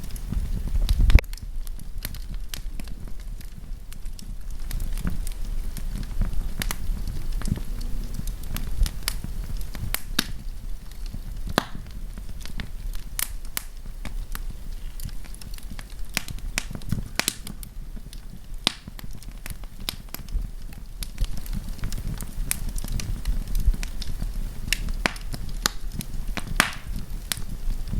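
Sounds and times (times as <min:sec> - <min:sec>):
campfire crackling: 0:00.0 - 0:27.9
low steady rumble: 0:00.0 - 0:27.9.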